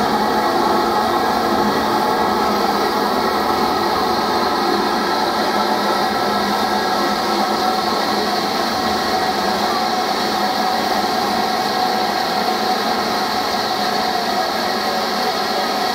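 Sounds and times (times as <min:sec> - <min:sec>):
steam locomotive hissing: 0:00.0 - 0:15.9.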